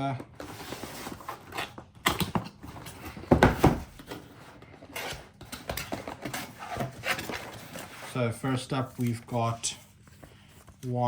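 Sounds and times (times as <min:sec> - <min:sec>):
cardboard packaging rustling: 0:00.2 - 0:11.0.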